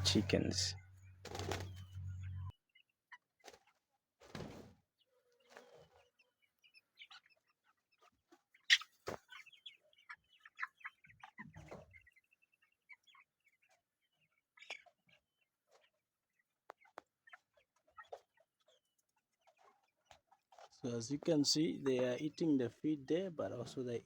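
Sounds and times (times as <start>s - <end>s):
chicks peeping and clucking: 0.0s - 3.9s, 4.6s - 24.0s.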